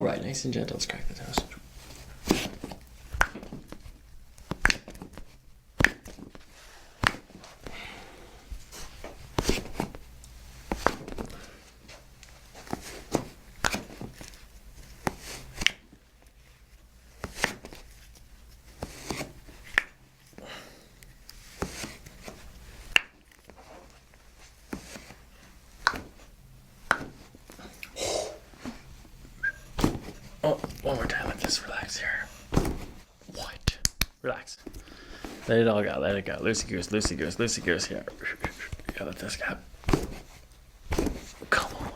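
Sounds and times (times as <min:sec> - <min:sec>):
soft handling sounds: 0:00.6 - 0:33.7, 0:34.3 - 0:41.9.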